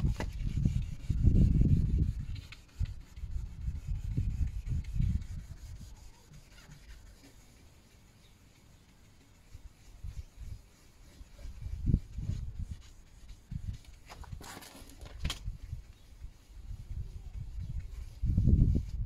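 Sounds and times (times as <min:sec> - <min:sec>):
sandpaper rubbing on plastic: 0:00.0 - 0:19.0.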